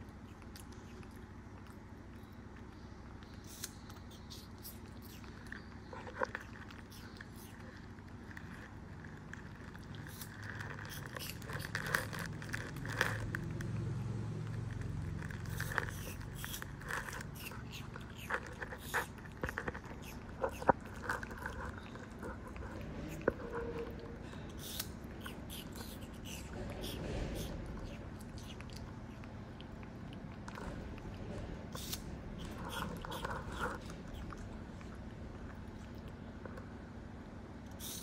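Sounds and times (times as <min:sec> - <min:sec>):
monkey chewing fruit: 0:00.0 - 0:36.9.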